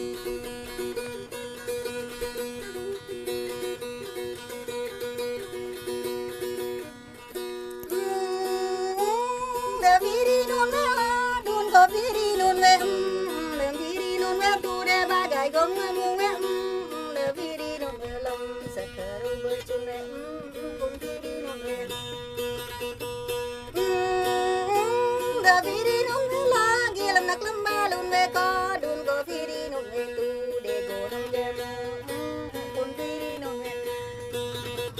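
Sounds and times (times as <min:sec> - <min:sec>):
plucked string instrument melody: 0:00.0 - 0:34.9.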